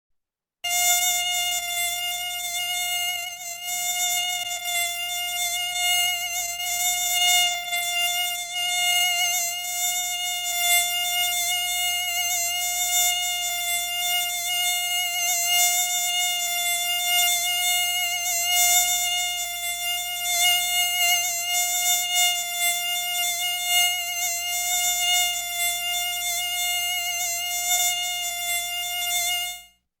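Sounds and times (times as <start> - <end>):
mosquito buzzing: 0.6 - 30.0.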